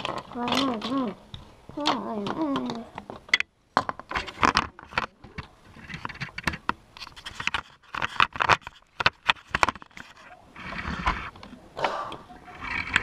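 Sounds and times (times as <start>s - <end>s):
plastic pieces clicking and knocking: 0.0s - 10.2s, 10.8s - 13.0s.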